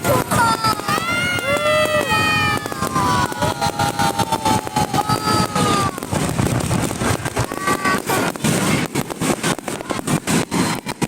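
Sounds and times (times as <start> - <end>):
firework whistles: 0.0 - 11.0
fireworks crackling bangs: 0.0 - 11.0.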